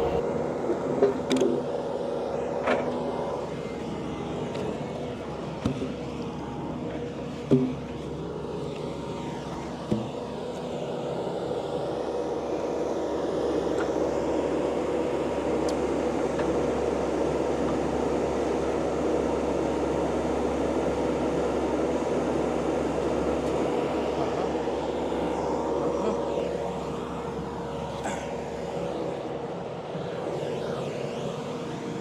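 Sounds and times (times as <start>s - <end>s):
heavy equipment engine droning: 0.0s - 32.0s.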